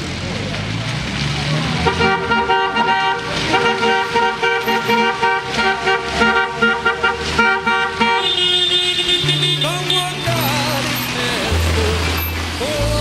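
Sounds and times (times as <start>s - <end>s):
car horns honking: 1.8s - 12.4s.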